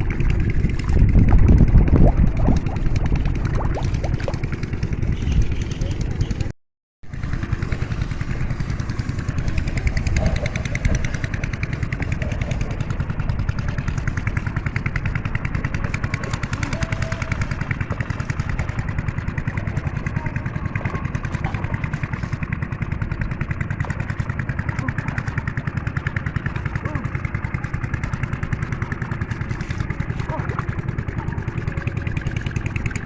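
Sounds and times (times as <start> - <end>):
small engine chugging: 0.0 - 6.5, 7.1 - 33.0.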